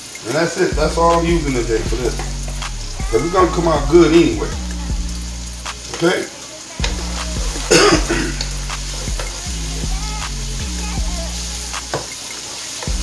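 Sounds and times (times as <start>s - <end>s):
vegetables sizzling in skillet: 0.0s - 13.0s.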